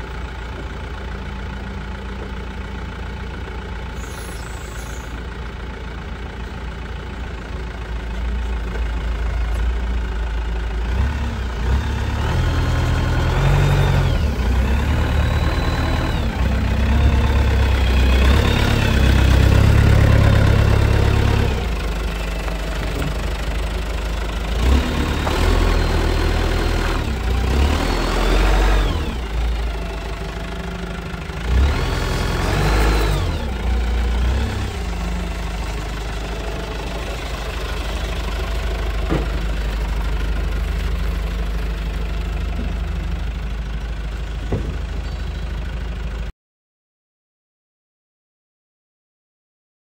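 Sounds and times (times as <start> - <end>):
diesel forklift engine revving: 0.0 - 46.3
engine whine: 0.0 - 46.3.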